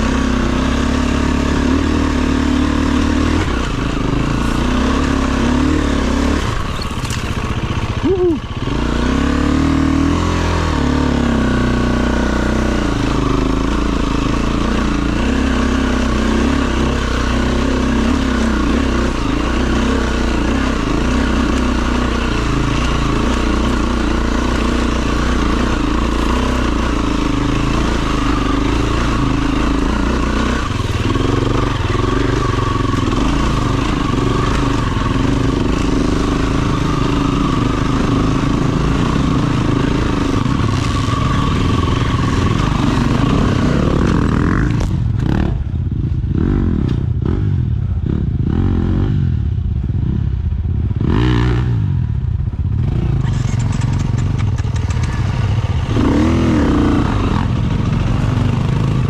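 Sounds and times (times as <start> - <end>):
dirt bike engine revving: 0.0 - 49.4, 50.9 - 59.0.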